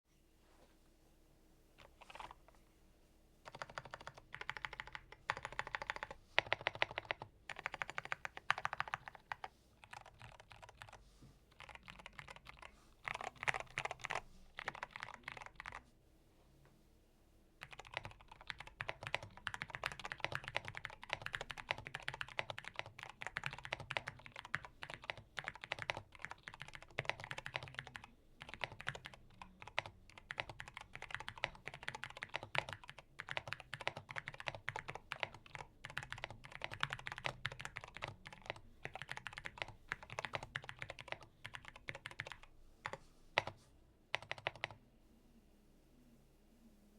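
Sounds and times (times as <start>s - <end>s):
mechanical keyboard typing: 3.5s - 15.8s, 17.6s - 44.8s.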